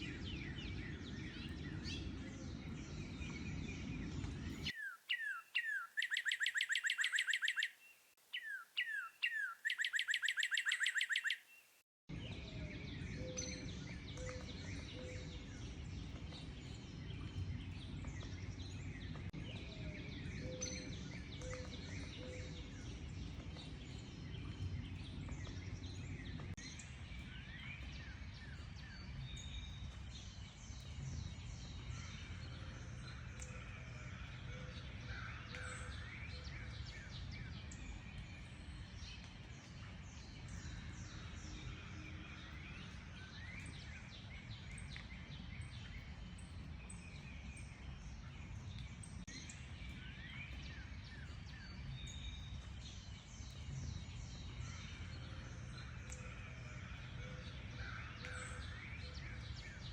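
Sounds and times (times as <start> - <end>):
bird song with loud trill: 0.0 - 59.9
mixed birdsong: 0.0 - 59.9.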